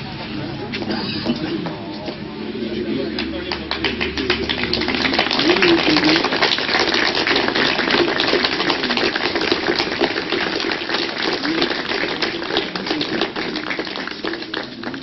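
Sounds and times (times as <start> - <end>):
faint voices: 0.0 - 15.0.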